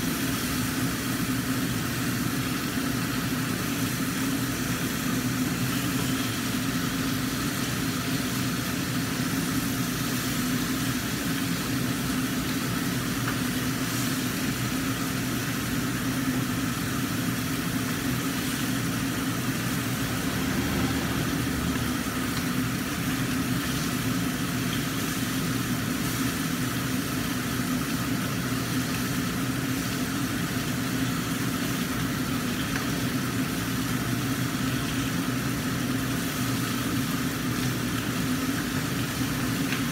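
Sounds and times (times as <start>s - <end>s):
fish frying in oil: 0.0s - 39.9s
range hood fan humming: 0.0s - 39.9s.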